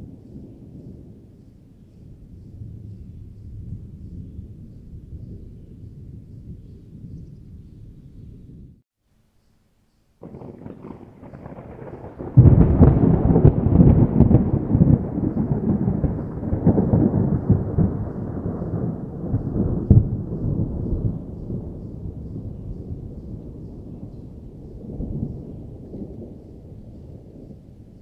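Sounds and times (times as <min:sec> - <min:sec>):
thunder rumbling and cracking: 0:00.0 - 0:08.8, 0:10.2 - 0:28.0.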